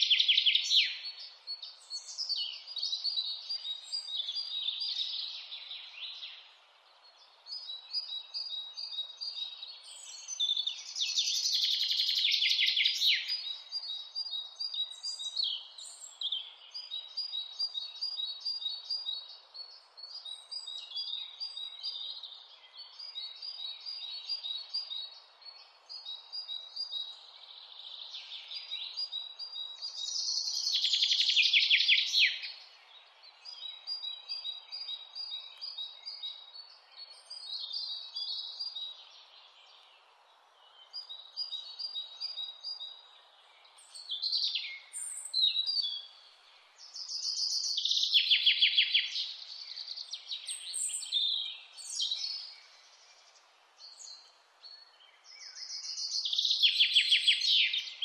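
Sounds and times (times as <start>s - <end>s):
birds chirping: 0.0s - 58.0s
faint steady hiss: 0.0s - 58.0s.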